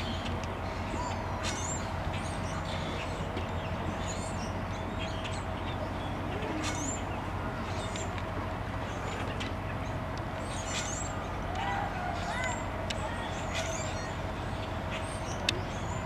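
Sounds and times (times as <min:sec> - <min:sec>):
birds chirping and whistling: 0:00.0 - 0:08.2, 0:08.8 - 0:16.0
faint steady hum: 0:00.0 - 0:16.0.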